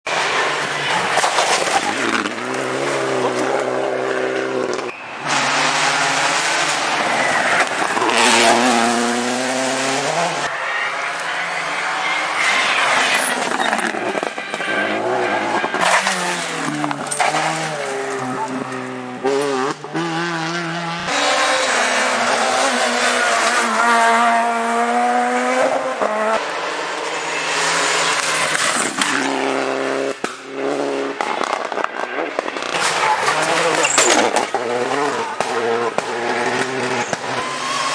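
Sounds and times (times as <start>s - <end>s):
rally car engines revving: 0.1s - 37.9s.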